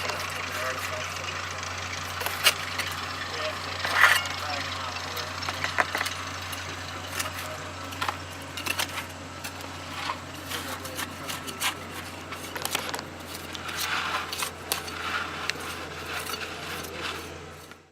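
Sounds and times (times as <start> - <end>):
hand tools clinking in dirt: 0.0 - 17.9
steady low hum: 0.0 - 17.9.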